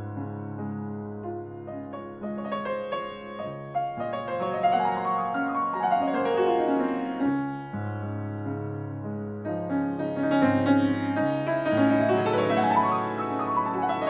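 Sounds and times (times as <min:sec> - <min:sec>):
low piano bass notes ringing: 0:00.0 - 0:14.0.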